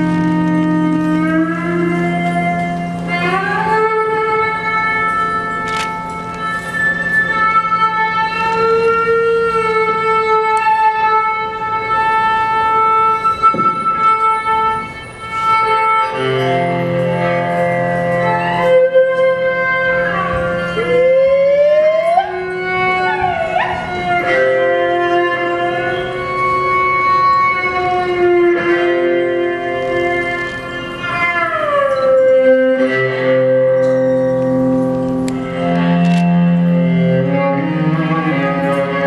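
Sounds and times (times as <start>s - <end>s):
held melodic notes: 0.0s - 39.0s.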